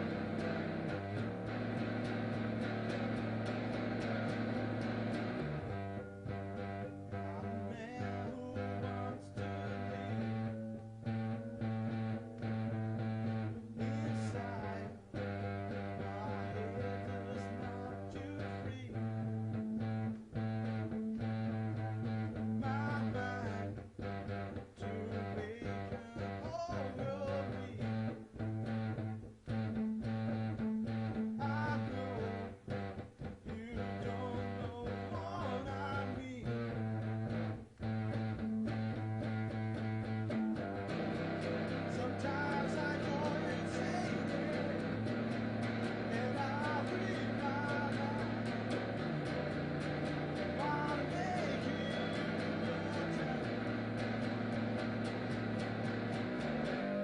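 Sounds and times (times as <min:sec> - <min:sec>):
guitar rock music: 0:00.0 - 0:57.0.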